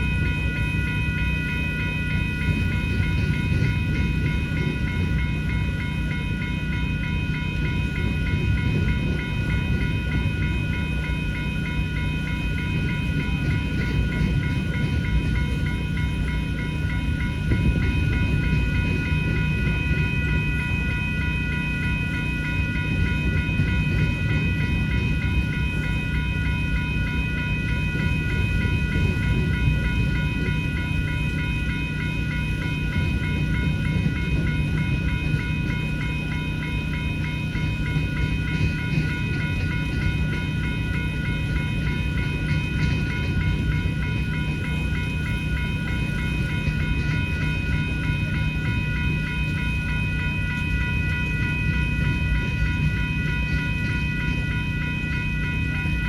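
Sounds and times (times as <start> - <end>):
crossing bell ringing: 0.0 - 56.0
freight train rumbling: 0.0 - 56.0.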